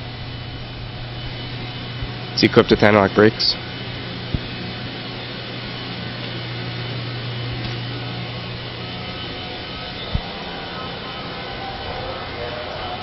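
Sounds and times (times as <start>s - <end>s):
mechanical drone with low hum: 0.0s - 13.0s.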